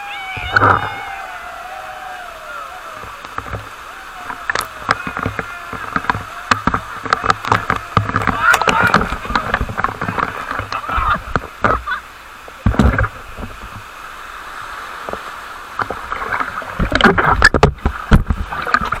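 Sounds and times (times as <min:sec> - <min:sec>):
falling water rushing: 0:00.0 - 0:19.0.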